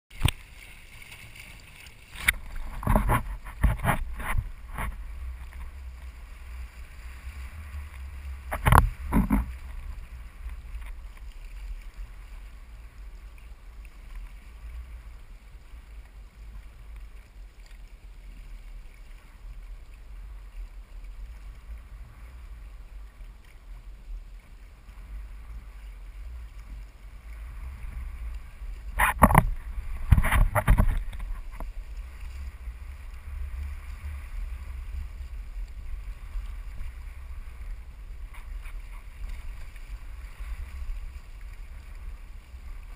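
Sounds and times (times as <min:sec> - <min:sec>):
water rushing past hull: 0:00.1 - 0:42.9
wind on microphone: 0:02.0 - 0:12.8, 0:19.3 - 0:42.9.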